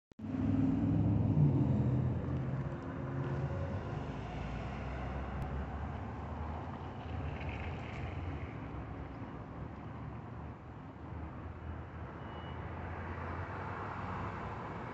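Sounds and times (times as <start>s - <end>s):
low traffic rumble: 0.2s - 14.9s.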